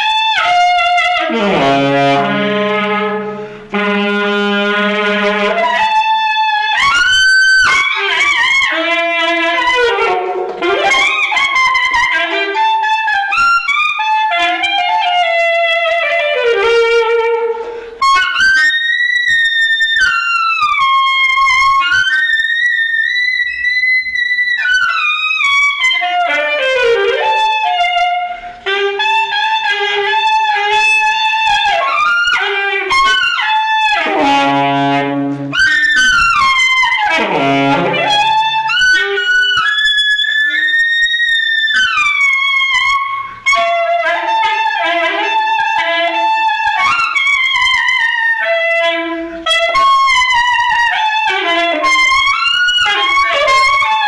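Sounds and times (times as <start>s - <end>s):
jazzy saxophone solo: 0.0s - 54.0s.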